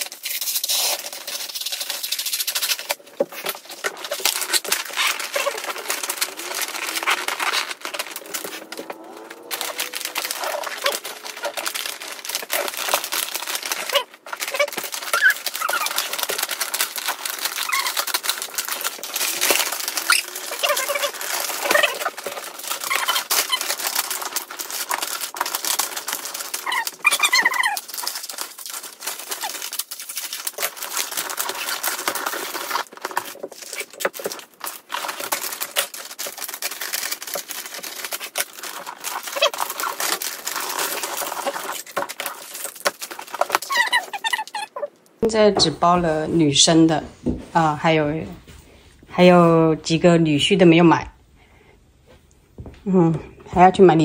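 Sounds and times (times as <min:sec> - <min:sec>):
wrapping paper rustling: 0:00.0 - 0:45.2.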